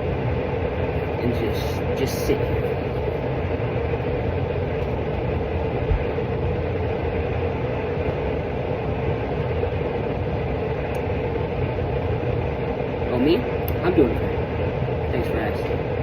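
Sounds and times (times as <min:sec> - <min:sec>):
machine whirring hum: 0:00.0 - 0:16.0.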